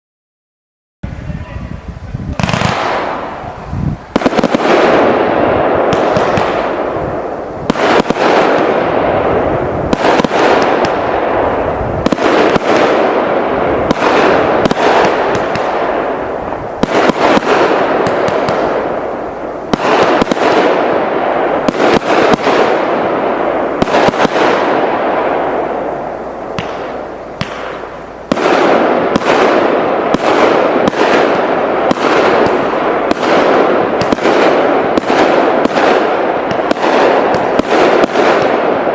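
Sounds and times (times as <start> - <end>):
firework barrage of shots and bursts: 1.0 - 38.9.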